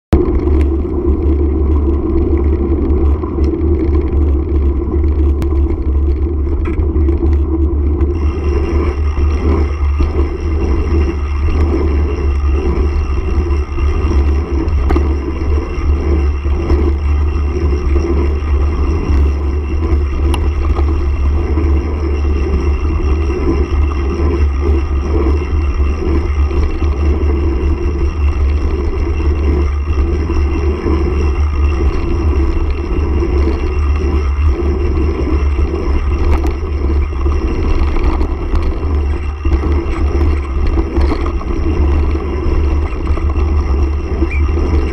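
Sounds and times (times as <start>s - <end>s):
bike rattling: 0.1s - 44.9s
wind buffeting microphone: 0.1s - 44.9s.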